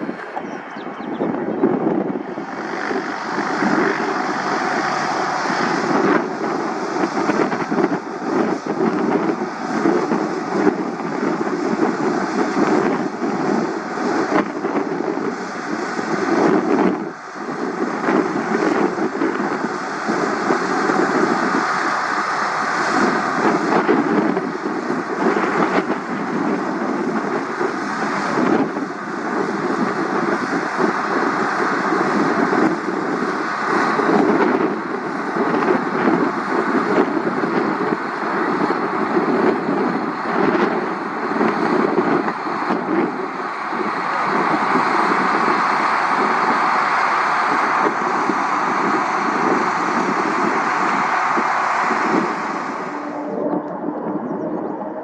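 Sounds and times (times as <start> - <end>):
aircraft engine: 0.0 - 55.0
wind buffeting microphone: 0.0 - 55.0.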